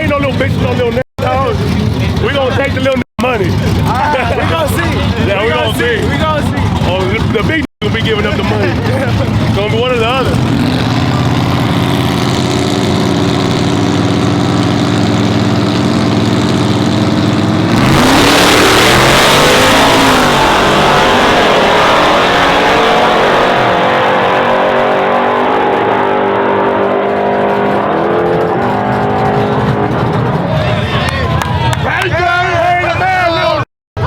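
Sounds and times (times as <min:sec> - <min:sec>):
race truck engines: 0:00.0 - 0:34.0.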